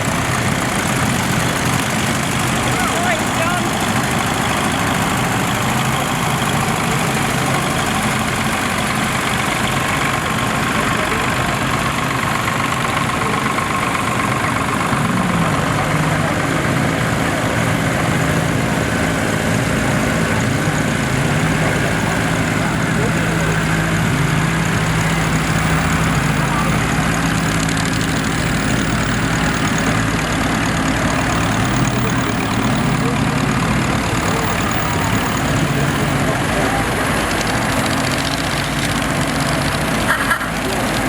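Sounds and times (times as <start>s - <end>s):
engine idling: 0.0s - 41.0s
faint voices: 0.0s - 41.0s.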